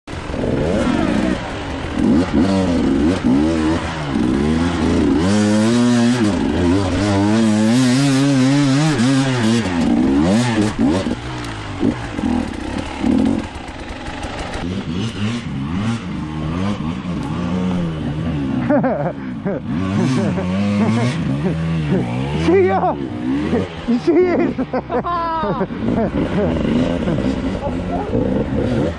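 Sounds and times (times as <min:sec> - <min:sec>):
dirt bike engine revving: 0:00.1 - 0:28.9.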